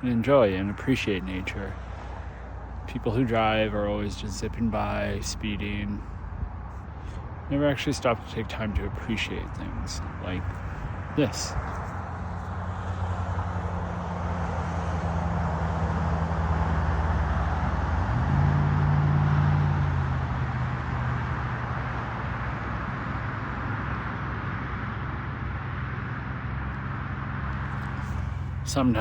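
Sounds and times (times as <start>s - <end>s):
vehicle passing: 0.0s - 29.0s.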